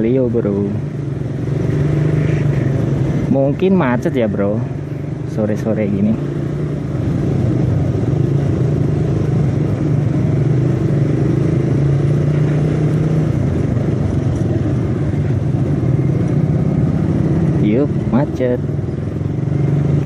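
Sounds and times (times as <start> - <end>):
motorcycle engine humming: 0.0 - 20.0
road and wind noise: 0.0 - 20.0.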